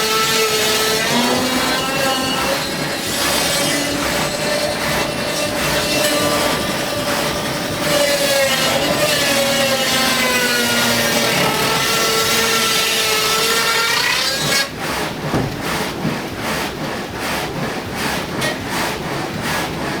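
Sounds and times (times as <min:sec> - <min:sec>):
saw cutting wood: 0:00.0 - 0:20.0.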